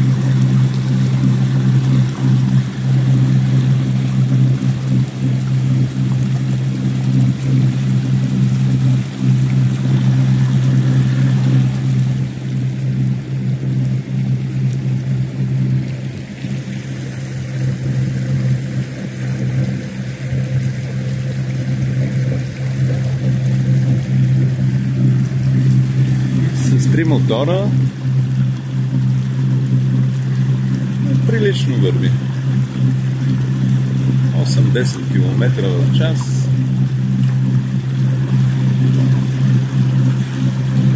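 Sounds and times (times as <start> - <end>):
outboard motors humming: 0.0 - 40.9
water rushing along hull: 0.0 - 40.9.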